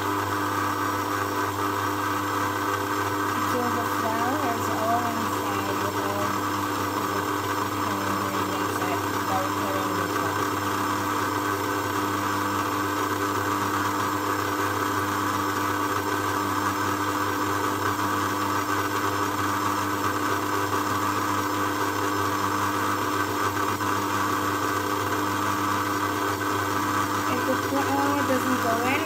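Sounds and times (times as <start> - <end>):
stand mixer motor humming: 0.0 - 29.0.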